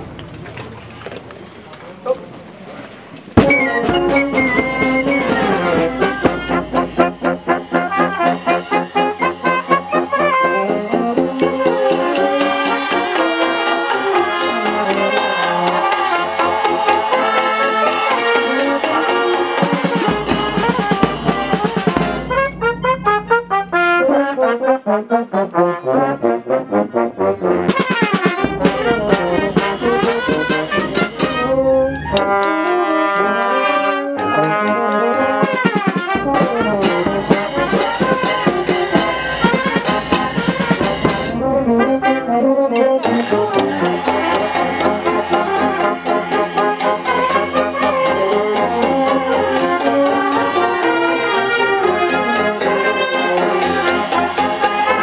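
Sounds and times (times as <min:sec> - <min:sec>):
marching brass band: 0:03.3 - 0:55.0.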